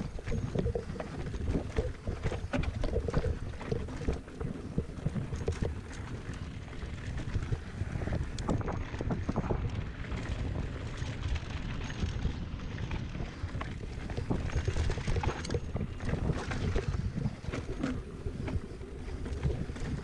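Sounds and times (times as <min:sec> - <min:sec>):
tyres rolling over dirt and rock: 0:00.0 - 0:20.0
wind rumbling on microphone: 0:00.0 - 0:20.0.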